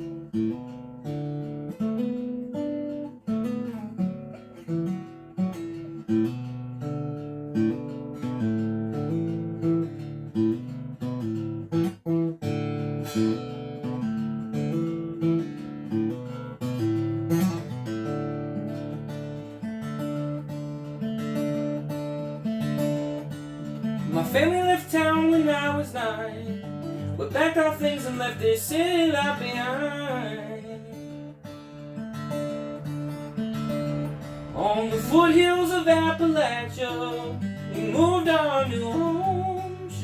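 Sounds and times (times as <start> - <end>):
acoustic guitar strumming: 0.0 - 40.0.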